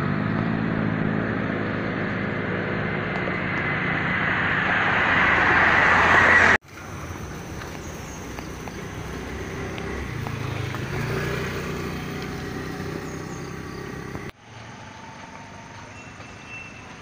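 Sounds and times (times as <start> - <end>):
vehicle engine rumble: 0.0 - 17.0
steady outdoor hiss: 1.4 - 17.0.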